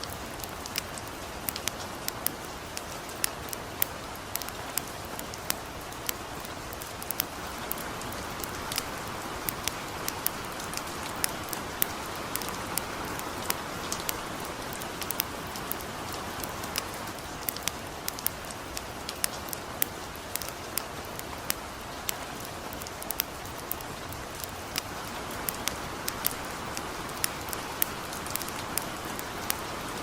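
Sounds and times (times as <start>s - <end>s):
campfire crackling: 0.0s - 30.0s
light rain falling: 0.0s - 30.0s.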